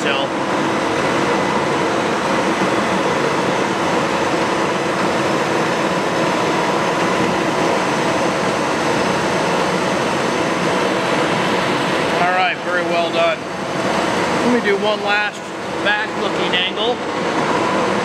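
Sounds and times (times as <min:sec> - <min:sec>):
lathe running: 0:00.0 - 0:18.0.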